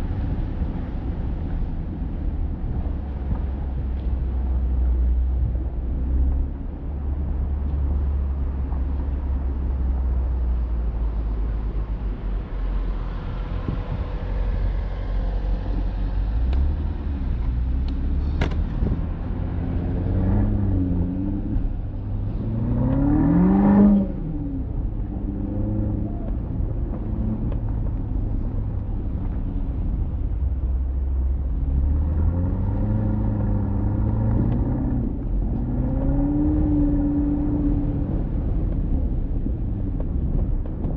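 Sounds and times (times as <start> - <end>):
car engine accelerating: 0.0 - 40.9
road noise rumble: 0.0 - 40.9.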